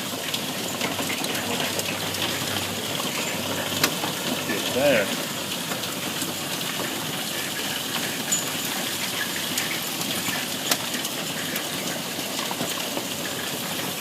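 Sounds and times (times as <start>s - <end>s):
rain and hail roaring: 0.0s - 14.0s.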